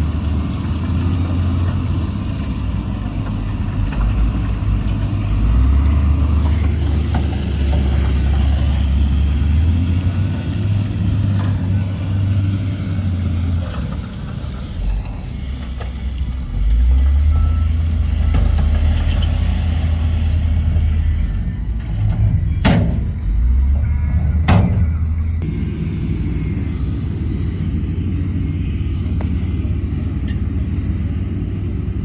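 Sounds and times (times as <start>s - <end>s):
diesel machinery engines droning: 0.0s - 32.0s.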